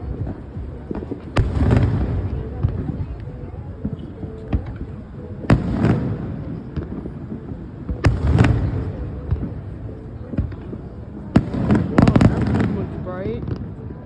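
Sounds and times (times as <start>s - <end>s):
firework booms with rumbling echo: 0.0s - 4.8s, 5.4s - 14.0s.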